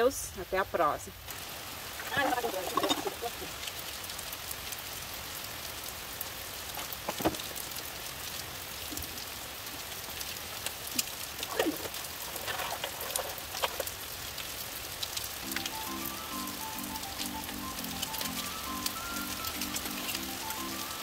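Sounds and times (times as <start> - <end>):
rain falling on tiles: 0.0 - 21.0.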